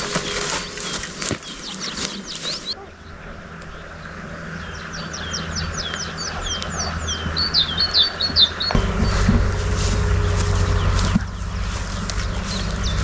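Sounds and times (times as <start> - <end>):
low rumbling noise: 0.0 - 13.0
songbird singing: 0.0 - 13.0.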